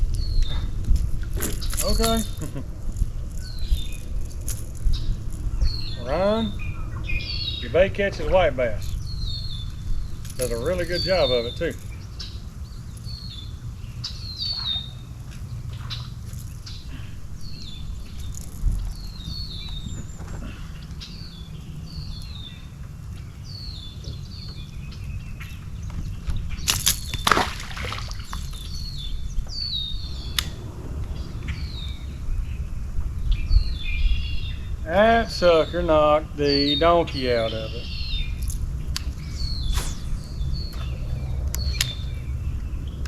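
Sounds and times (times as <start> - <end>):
wind rumble on microphone: 0.0 - 43.0
songbird calling: 1.3 - 43.0.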